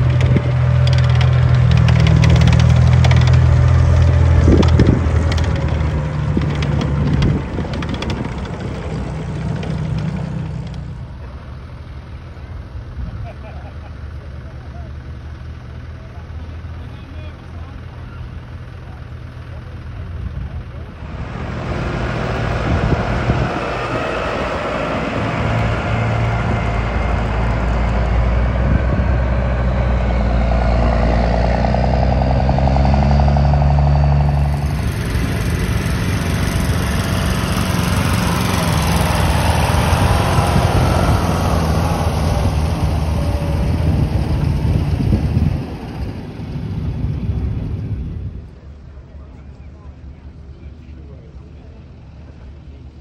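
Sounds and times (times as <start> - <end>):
tracked vehicle driving past: 0.0 - 53.0
tracked vehicle engines rumbling: 0.0 - 53.0.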